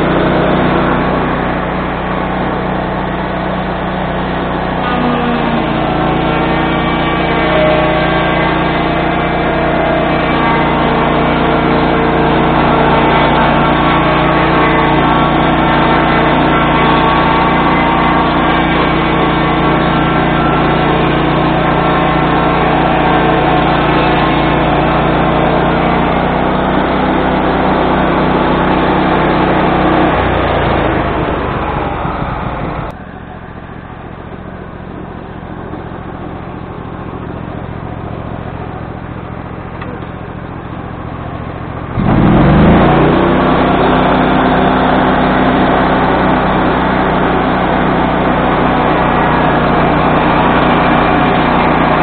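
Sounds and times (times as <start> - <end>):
circular saw cutting log: 0.0 - 52.0
sawmill engine running: 0.0 - 52.0.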